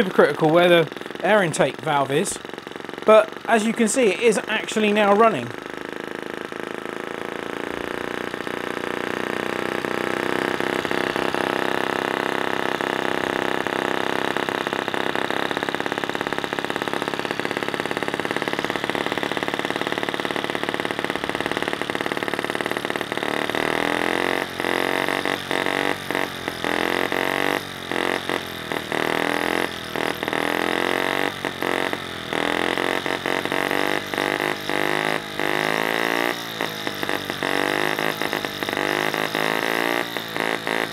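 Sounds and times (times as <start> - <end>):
model engine running: 0.0 - 40.9.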